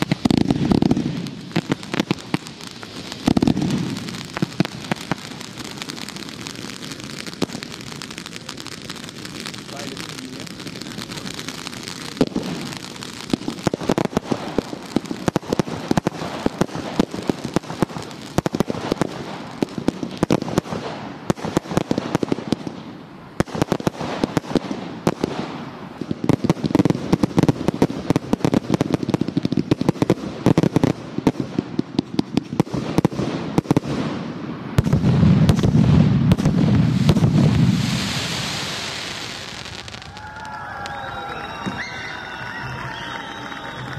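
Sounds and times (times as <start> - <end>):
firework fountain rushing blast: 0.0 - 43.9
fireworks crackling and popping: 0.0 - 43.9.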